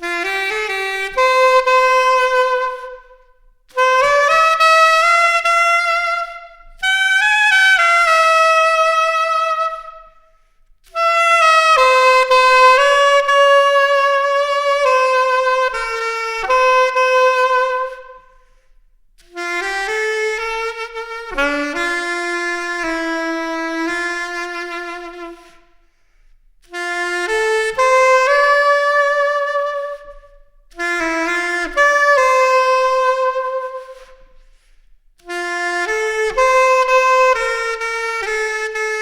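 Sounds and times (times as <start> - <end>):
solo saxophone melody: 0.0 - 39.0.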